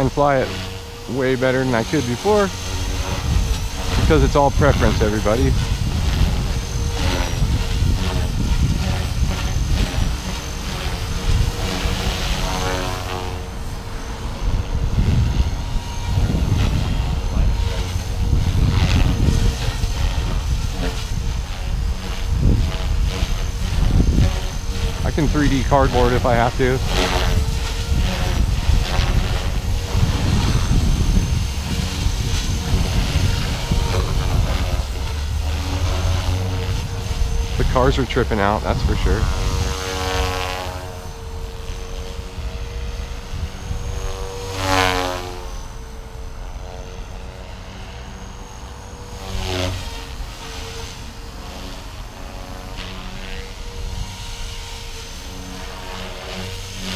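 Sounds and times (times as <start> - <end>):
gliding tones: 0.0 - 52.6
helicopter motor whine: 0.0 - 56.9
rotor buzz: 0.0 - 56.9.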